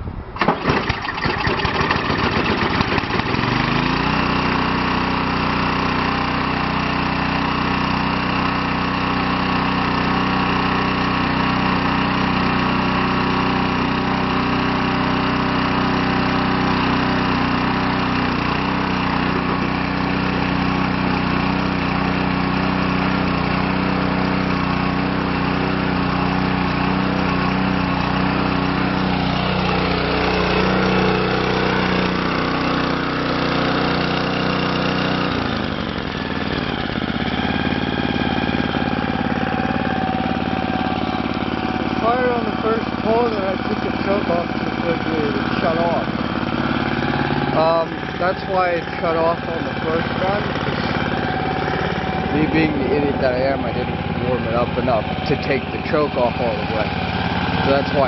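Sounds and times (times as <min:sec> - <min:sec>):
snowblower engine starting: 0:00.1 - 0:58.0.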